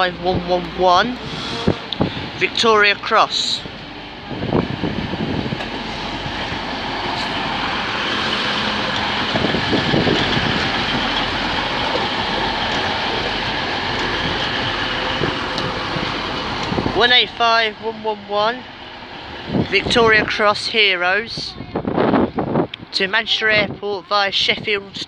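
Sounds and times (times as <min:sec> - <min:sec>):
train wheels on track: 0:00.0 - 0:21.1
train engines rumbling: 0:00.0 - 0:25.0.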